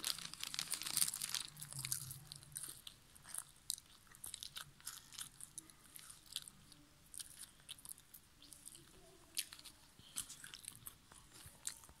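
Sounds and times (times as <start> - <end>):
potato chips crunching: 0.0 - 12.0.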